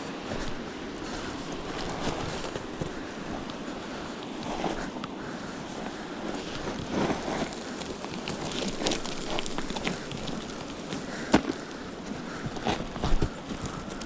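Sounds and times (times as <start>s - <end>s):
footsteps on loose gravel: 0.0s - 14.0s.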